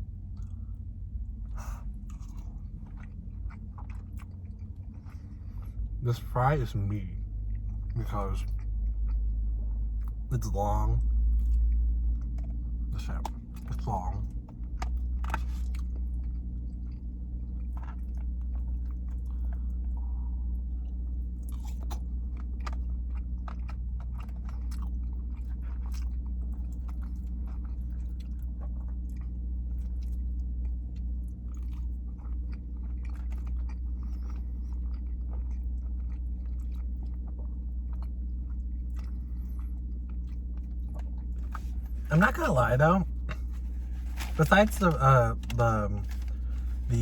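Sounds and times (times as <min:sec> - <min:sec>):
person chewing food: 0:00.0 - 0:06.0, 0:07.1 - 0:10.3, 0:11.0 - 0:47.0
steady low hum: 0:00.0 - 0:47.0.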